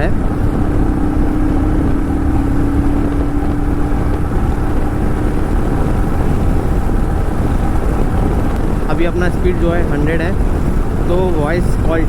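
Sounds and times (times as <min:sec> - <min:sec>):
motorcycle engine: 0:00.0 - 0:12.0
wind and road noise: 0:00.0 - 0:12.0.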